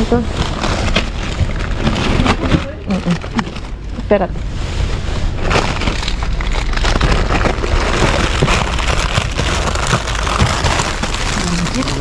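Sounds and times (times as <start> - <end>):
plastic bags rustling: 0.0 - 12.0
steady low rumble: 0.0 - 12.0.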